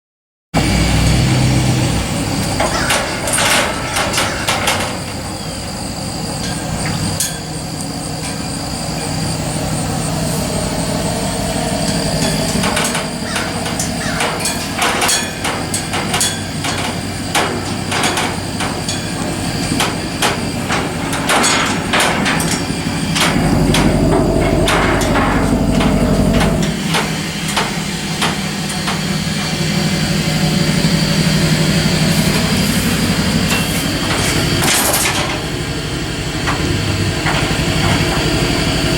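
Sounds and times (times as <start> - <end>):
engine running: 0.6 - 38.9
metallic knocks and clanks: 2.4 - 8.6, 11.2 - 35.7, 36.4 - 38.8.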